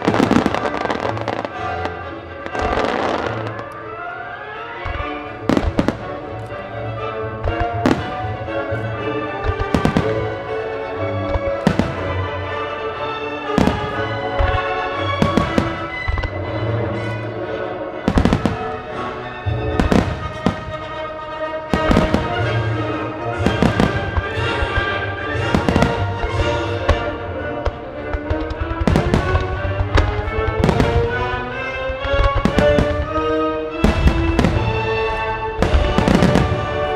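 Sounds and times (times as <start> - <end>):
music: 0.0 - 36.9.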